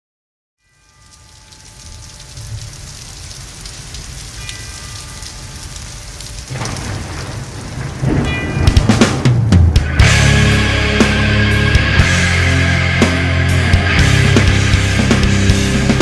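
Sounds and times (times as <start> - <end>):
rain: 0.6 - 16.0
thunder rumble: 2.3 - 16.0.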